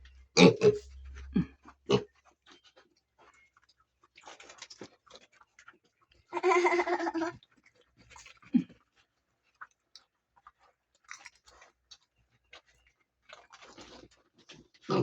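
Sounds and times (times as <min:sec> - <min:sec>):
pigs grunting and snuffling: 0:00.0 - 0:15.0.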